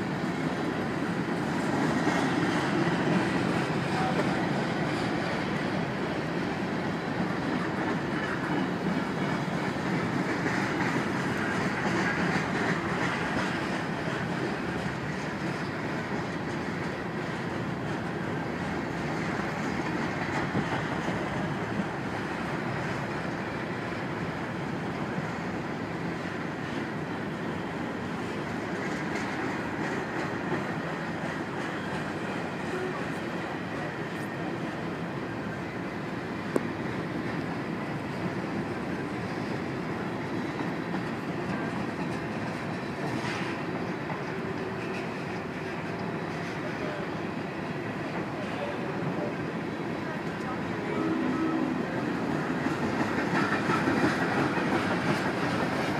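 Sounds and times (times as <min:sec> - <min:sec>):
freight train rolling past: 0:00.0 - 0:55.9.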